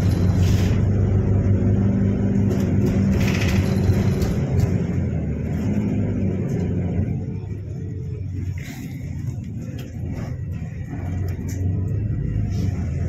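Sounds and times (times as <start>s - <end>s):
bus engine humming: 0.0s - 13.0s
road noise: 0.0s - 13.0s.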